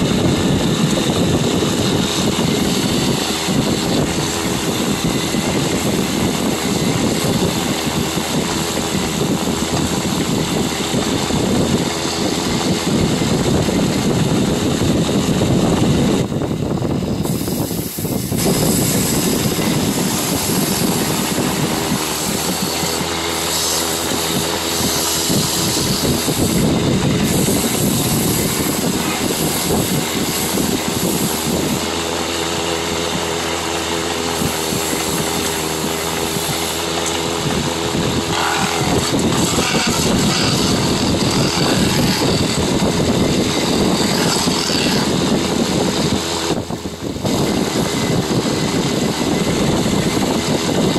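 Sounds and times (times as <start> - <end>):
tool scraping spinning wood: 0.0 - 50.9
wood lathe humming: 0.0 - 50.9.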